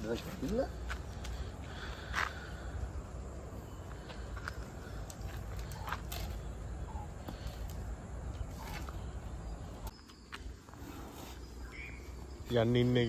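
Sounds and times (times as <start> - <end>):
faint bird chirps: 0.5 - 13.0.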